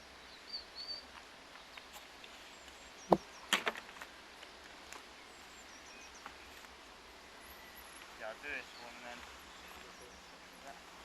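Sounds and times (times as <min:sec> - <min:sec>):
faint bird chirps: 0:00.1 - 0:03.5, 0:04.5 - 0:10.8.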